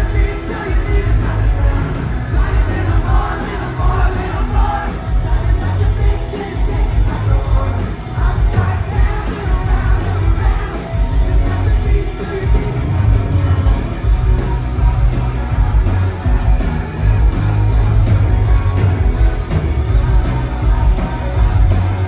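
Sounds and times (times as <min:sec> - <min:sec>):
pop-rock band playing live: 0:00.0 - 0:22.0.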